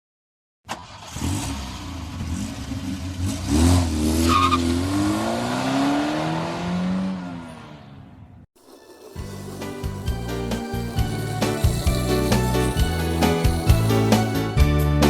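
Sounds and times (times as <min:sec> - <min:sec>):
engine revving: 0:00.7 - 0:14.6.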